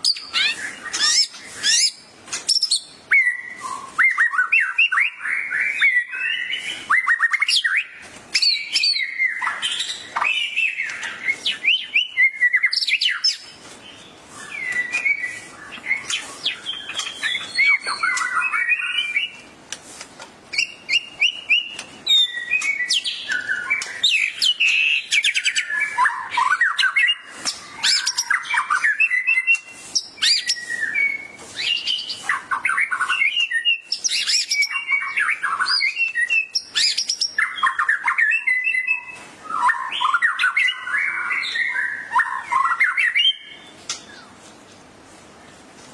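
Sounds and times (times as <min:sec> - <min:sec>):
songbird whistling and trilling: 0:00.0 - 0:19.5, 0:20.5 - 0:44.3.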